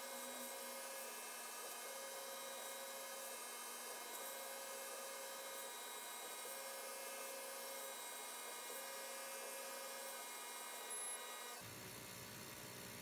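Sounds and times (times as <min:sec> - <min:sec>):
laser cutter high tone: 0:00.0 - 0:11.7
laser cutter hum and hiss: 0:00.0 - 0:13.0.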